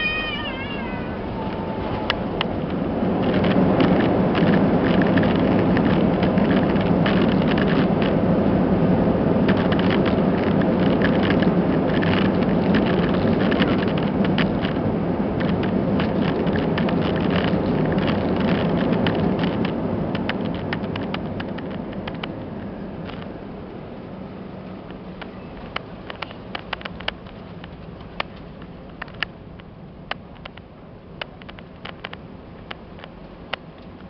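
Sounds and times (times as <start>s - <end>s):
engine and runway roar: 0.0s - 34.0s
sharp rattles and clicks: 0.6s - 8.2s, 9.4s - 23.3s, 24.9s - 34.0s.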